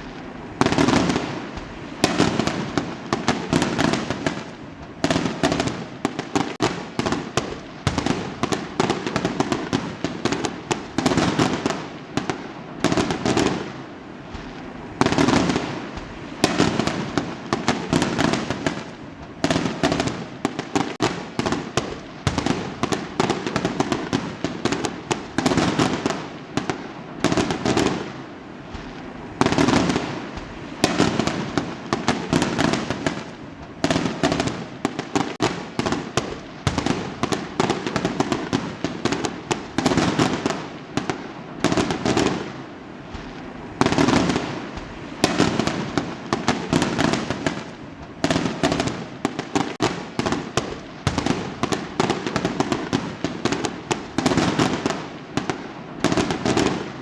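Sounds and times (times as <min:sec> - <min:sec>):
fireworks cracking and banging: 0:00.0 - 0:57.0.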